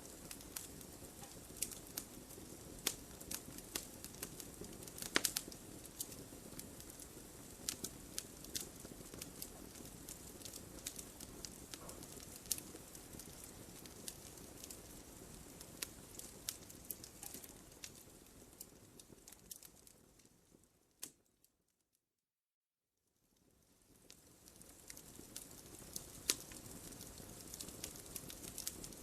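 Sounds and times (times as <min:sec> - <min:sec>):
fire hissing: 0:00.0 - 0:19.6, 0:24.0 - 0:29.0
fire pops and crackles: 0:00.0 - 0:21.4, 0:23.4 - 0:29.0.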